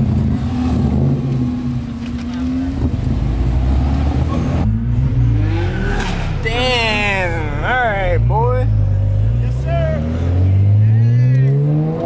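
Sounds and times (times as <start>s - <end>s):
car engine and exhaust running: 0.0s - 11.5s.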